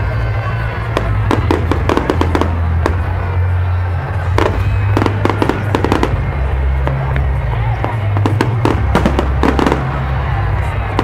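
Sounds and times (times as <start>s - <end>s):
fireworks cracking and banging: 0.3s - 11.0s
music with deep bass line: 0.7s - 11.0s.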